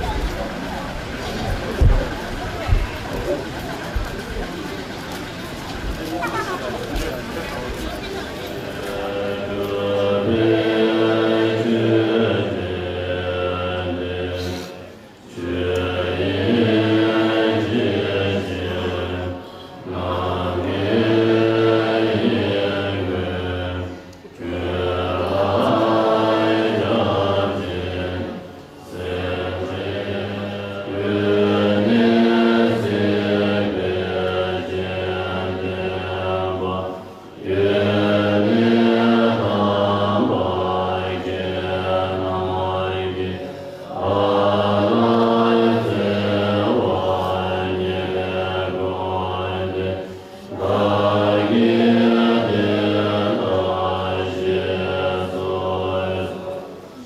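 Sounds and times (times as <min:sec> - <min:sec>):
voices chanting held notes: 0:00.0 - 0:57.0.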